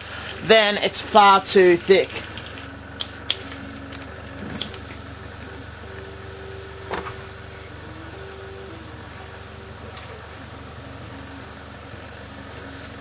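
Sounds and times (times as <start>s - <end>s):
air compressor hissing and humming: 0.0s - 13.0s.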